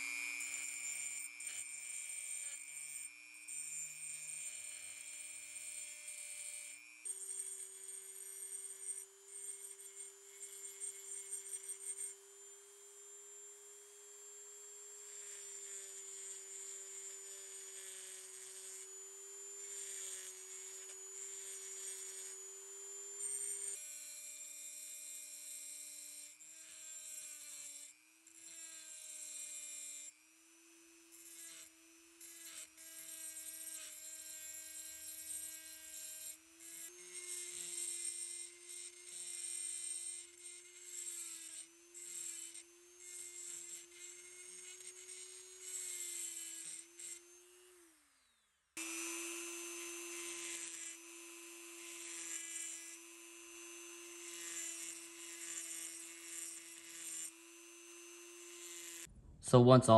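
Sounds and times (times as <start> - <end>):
cutter rasping on metal: 0.0 - 59.1
rotary tool whine: 0.0 - 59.6.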